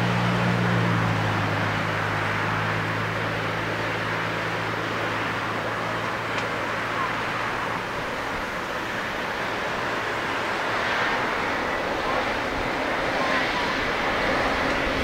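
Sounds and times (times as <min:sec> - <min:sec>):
jet engines rushing hiss: 0:00.0 - 0:15.0.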